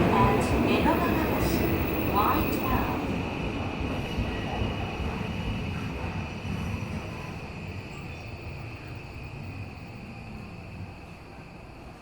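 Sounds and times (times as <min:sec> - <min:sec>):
subway train rumbling in tunnel: 0:00.0 - 0:12.0.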